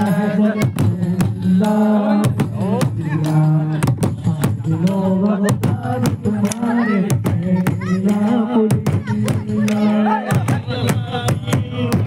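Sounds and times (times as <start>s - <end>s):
frame drum beats: 0.0s - 12.0s
men chanting together: 0.0s - 12.0s.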